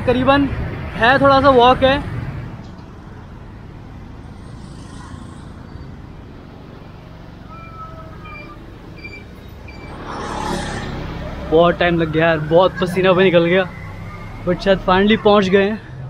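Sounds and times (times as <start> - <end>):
road traffic rumble: 0.0 - 16.0
vehicle passing close: 0.0 - 16.0.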